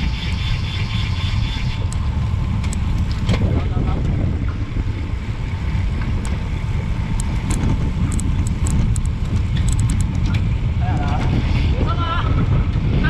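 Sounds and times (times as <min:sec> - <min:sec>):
bicycle tyres hissing: 0:00.0 - 0:03.0, 0:04.2 - 0:13.0
wind buffeting microphone: 0:00.0 - 0:13.0.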